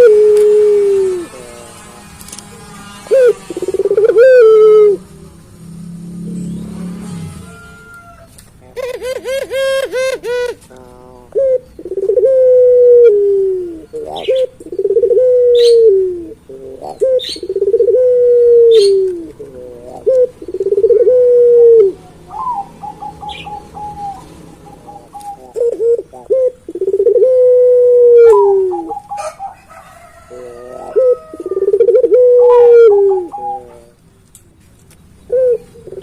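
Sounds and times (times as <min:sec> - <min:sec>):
dove cooing: 0:00.0 - 0:01.6, 0:03.1 - 0:05.1, 0:06.0 - 0:34.0, 0:35.3 - 0:36.0.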